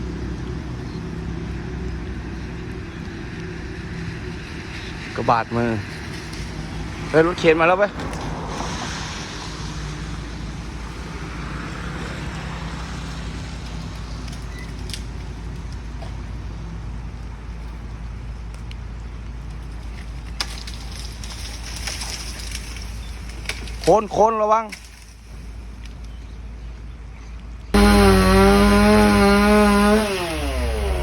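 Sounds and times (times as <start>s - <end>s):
engine humming: 0.0s - 31.0s.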